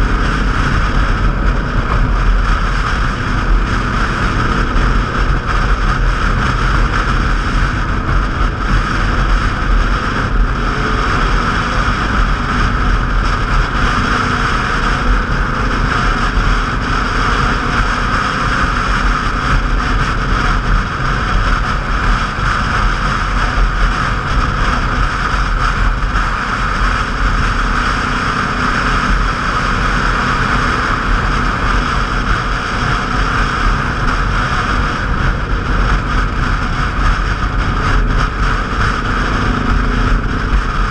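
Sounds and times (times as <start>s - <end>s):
motorcycle engines running: 0.0s - 40.9s
wind on microphone: 0.0s - 40.9s.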